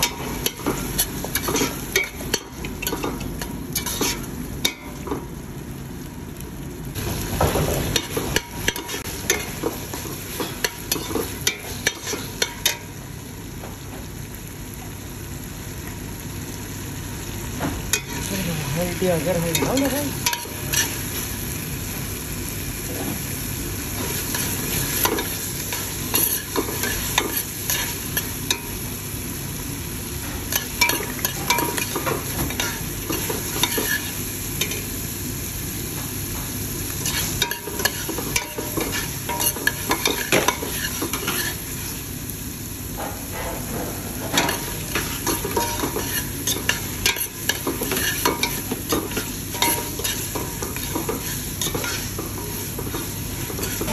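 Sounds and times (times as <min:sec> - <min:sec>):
masala sizzling in oil: 0:00.0 - 0:53.9.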